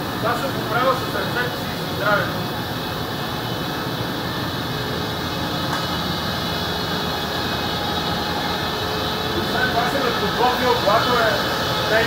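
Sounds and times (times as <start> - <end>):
printing press running: 0.0 - 12.0.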